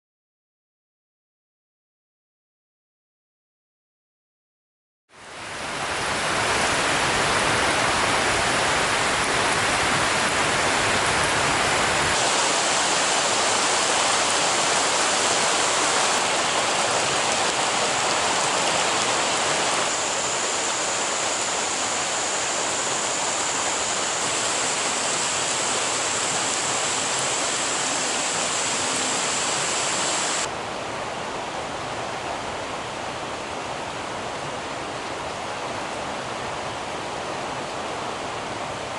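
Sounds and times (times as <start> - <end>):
falling water rushing: 5.2 - 38.9.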